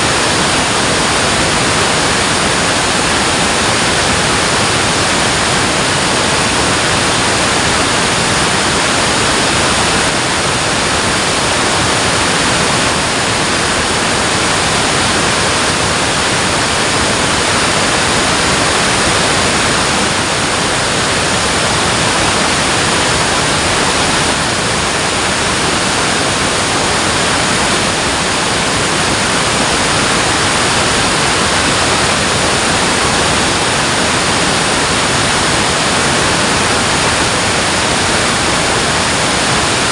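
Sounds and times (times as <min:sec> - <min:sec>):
dam water rushing: 0:00.0 - 0:39.9.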